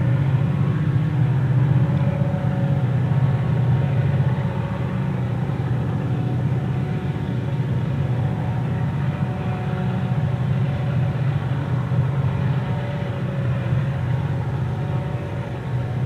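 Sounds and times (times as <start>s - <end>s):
diesel locomotive engines rumbling: 0.0s - 16.0s
faint whine: 0.0s - 16.0s.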